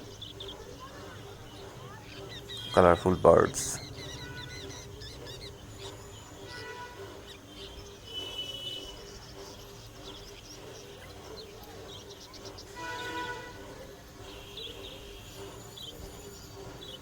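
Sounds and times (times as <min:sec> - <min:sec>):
low background din: 0:00.0 - 0:17.0
small birds chirping: 0:00.0 - 0:17.0.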